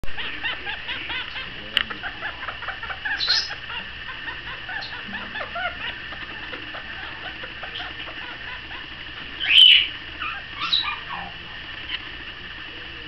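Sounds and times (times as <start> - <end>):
parrot chattering chirps: 0.1 - 12.0.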